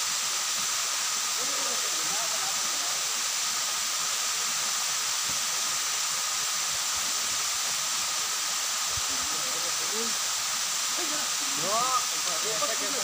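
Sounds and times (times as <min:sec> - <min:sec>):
waterfall rushing into a pool: 0:00.0 - 0:13.0.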